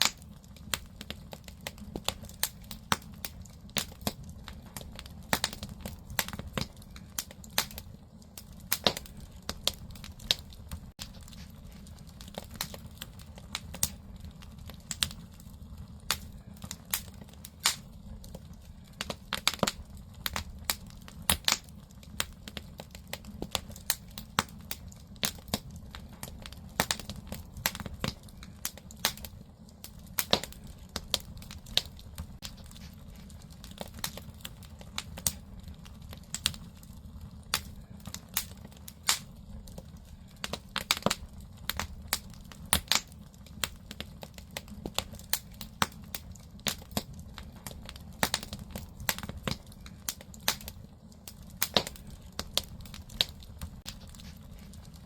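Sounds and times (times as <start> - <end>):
firewood crackling and popping: 0.0 - 55.0
low rumble of fire: 0.0 - 55.0.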